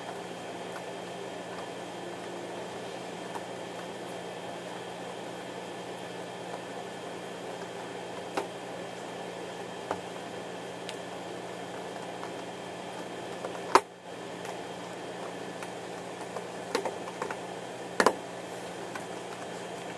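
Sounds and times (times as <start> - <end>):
ventilation hum: 0.0 - 19.9.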